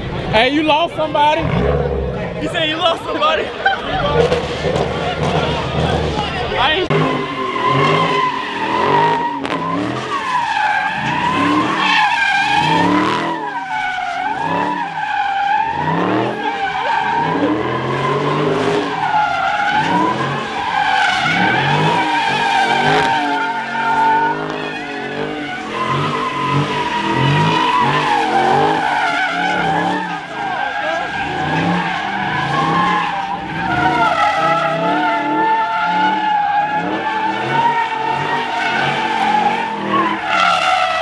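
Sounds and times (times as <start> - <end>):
car engine revving: 0.0 - 41.0
car tyres squealing: 0.0 - 41.0.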